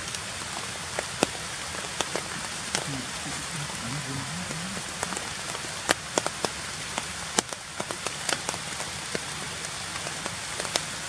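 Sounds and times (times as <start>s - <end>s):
light rain on leaves: 0.0s - 11.0s
water drips ticking: 0.0s - 11.0s.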